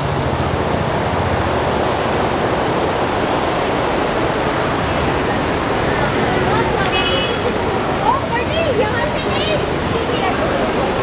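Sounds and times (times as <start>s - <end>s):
stream rushing over boulders: 0.0s - 11.0s.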